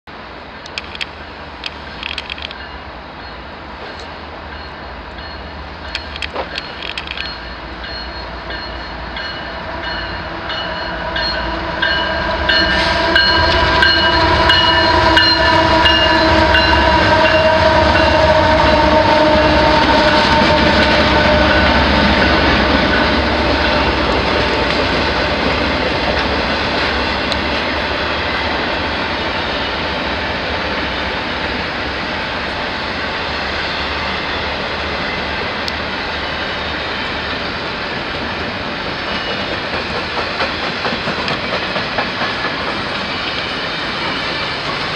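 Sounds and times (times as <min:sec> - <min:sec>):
diesel locomotive whine: 0:00.1 - 0:44.9
freight cars rumbling and rattling: 0:00.4 - 0:08.2, 0:12.3 - 0:44.9.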